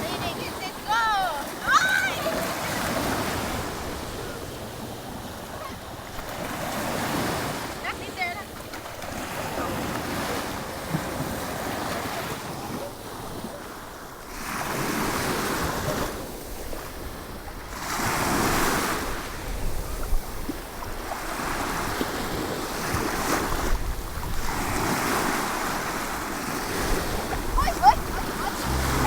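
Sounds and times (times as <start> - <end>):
ocean waves breaking: 0.0 - 19.2, 24.4 - 29.0.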